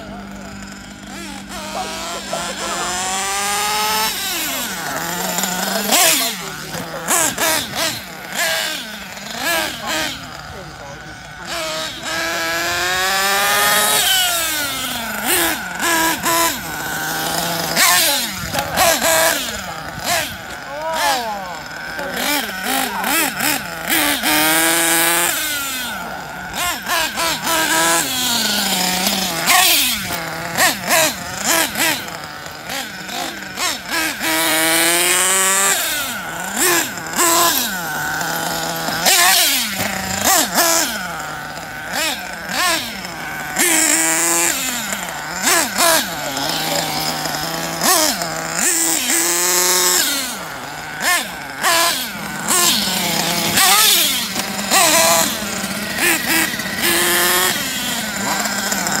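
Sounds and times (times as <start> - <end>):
rc car engine revving: 0.0 - 59.0.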